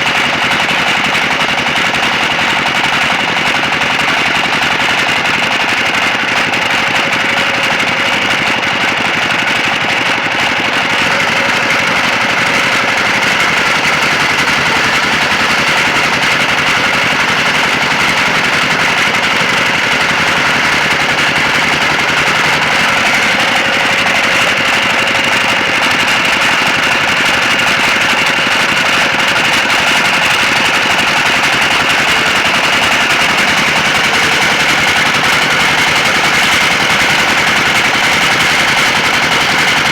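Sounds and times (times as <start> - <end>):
rapid mechanical rattle: 0.0 - 39.9
sawmill machinery whine: 0.0 - 39.9.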